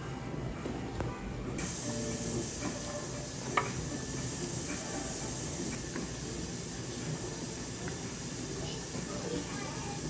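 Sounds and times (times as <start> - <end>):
steady hiss: 1.6 - 10.0.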